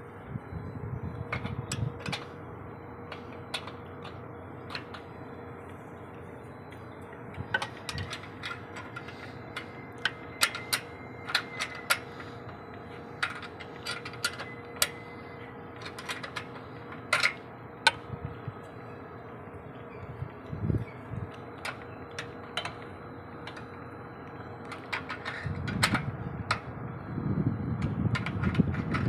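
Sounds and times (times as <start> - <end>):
faint steady tone: 0.0 - 27.9.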